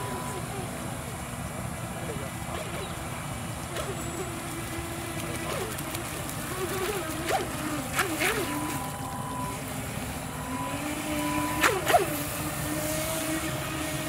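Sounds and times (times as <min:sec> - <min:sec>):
electric motor and pump whining: 0:00.0 - 0:14.0.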